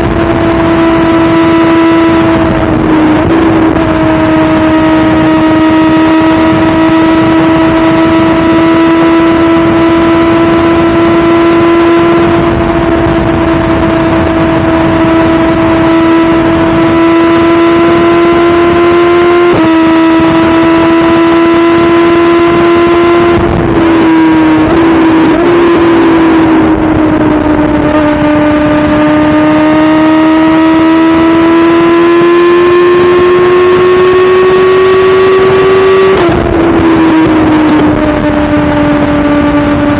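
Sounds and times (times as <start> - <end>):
motorcycle engine at speed: 0.0 - 39.9
rushing wind: 0.0 - 39.9.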